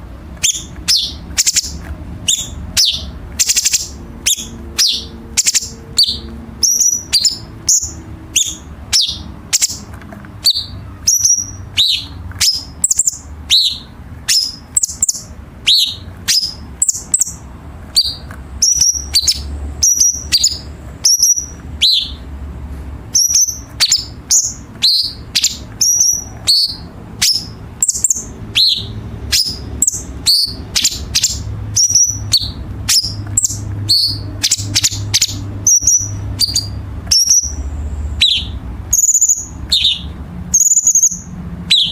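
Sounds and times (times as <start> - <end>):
bird calling in harsh sharp notes: 0.4 - 22.3, 23.1 - 41.9.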